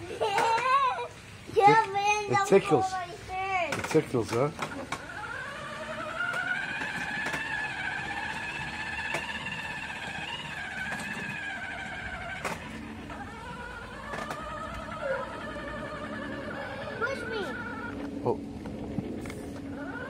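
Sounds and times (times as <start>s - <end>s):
toy motorcycle motor whining: 0.0s - 20.0s.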